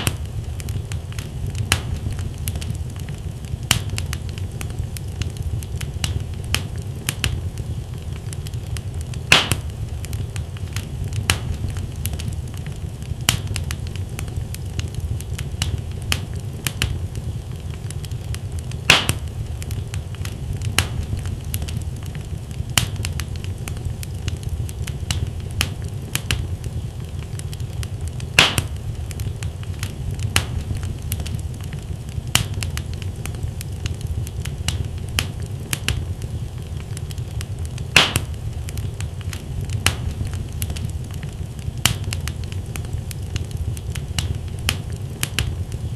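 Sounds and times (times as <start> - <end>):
logs crackling and popping: 0.0 - 45.9
low rumble of flames: 0.0 - 45.9.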